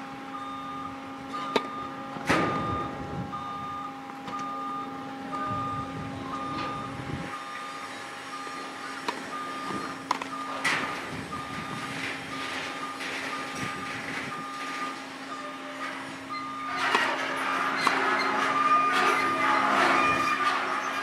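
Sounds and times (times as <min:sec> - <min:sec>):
vehicle reversing alarm beeping: 0:00.0 - 0:21.0.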